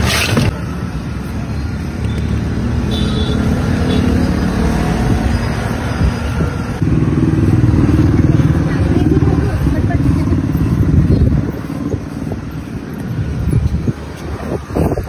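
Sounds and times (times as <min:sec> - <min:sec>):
vehicle engine running: 0:00.6 - 0:15.0.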